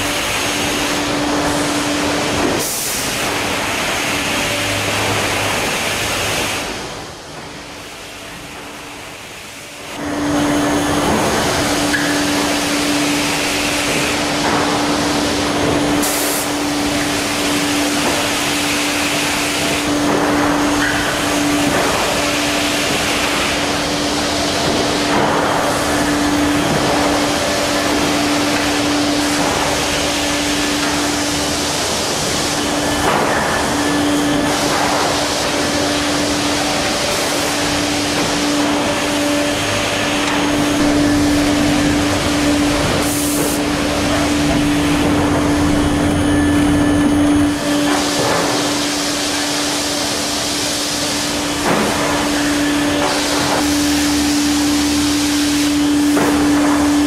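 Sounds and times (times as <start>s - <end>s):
machinery hum: 0.0s - 57.0s
loud rushing noise: 9.5s - 57.0s.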